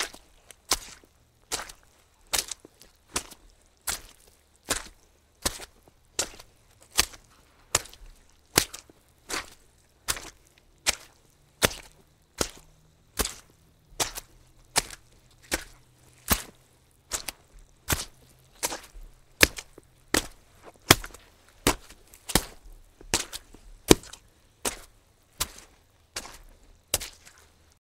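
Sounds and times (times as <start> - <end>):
footsteps on soggy ground: 0.0 - 27.8.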